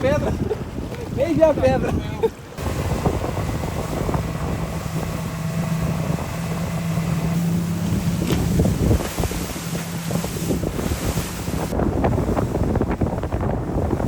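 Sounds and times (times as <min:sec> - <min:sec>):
motorboat engine running: 0:00.0 - 0:14.0
wind buffeting microphone: 0:00.0 - 0:14.0.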